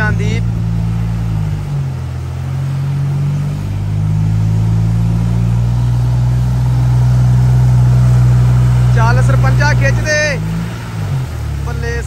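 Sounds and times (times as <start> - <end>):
engines driving through mud: 0.0 - 12.0.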